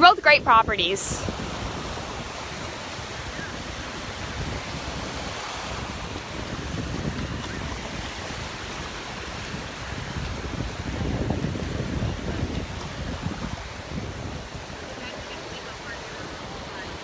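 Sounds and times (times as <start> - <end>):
surf washing onto beach: 0.0 - 17.0
wind rumbling on microphone: 0.0 - 17.0.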